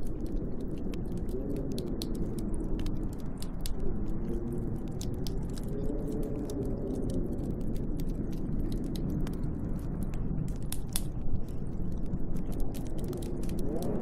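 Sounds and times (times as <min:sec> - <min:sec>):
howling wind: 0:00.0 - 0:14.0
wood fire crackling and popping: 0:00.0 - 0:14.0.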